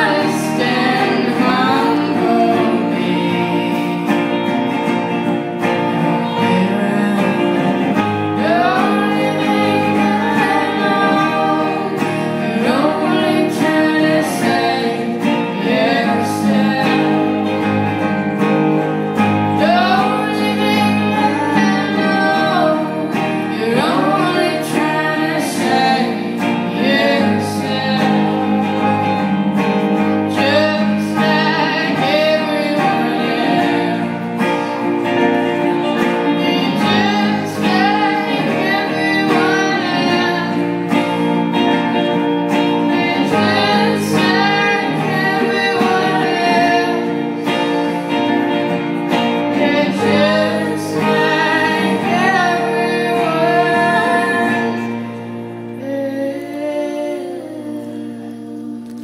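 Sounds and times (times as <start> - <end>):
keyboard: 0.0 - 59.0
strummed electric guitars: 0.0 - 59.0
woman singing lead: 0.0 - 59.0.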